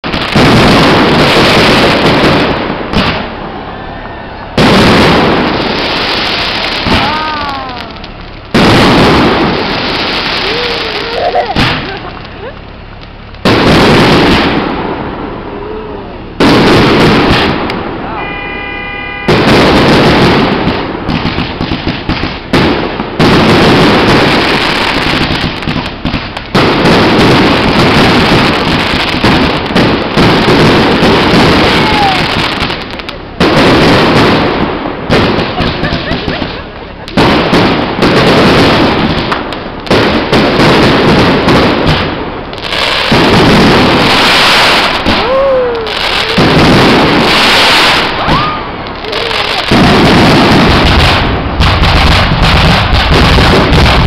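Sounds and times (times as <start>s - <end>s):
fireworks booming: 0.0s - 54.0s
fireworks crackling: 0.0s - 54.0s.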